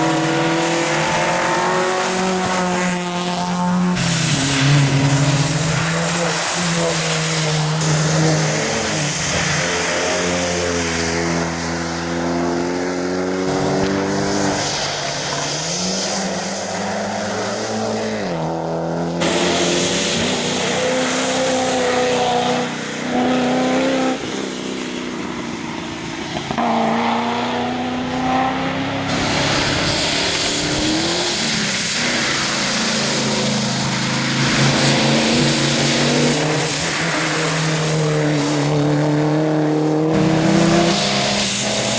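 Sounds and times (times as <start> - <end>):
rally car engines revving: 0.0 - 41.9
tyres hissing on wet road: 0.0 - 41.9.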